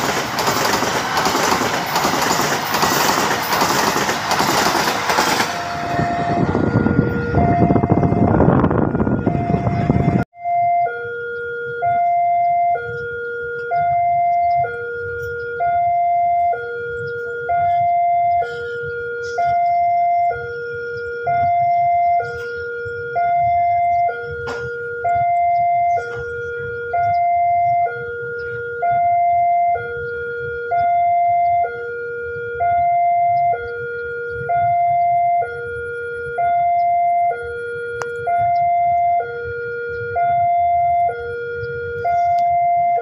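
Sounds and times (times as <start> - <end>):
level crossing two-tone alarm: 5.7 - 43.0.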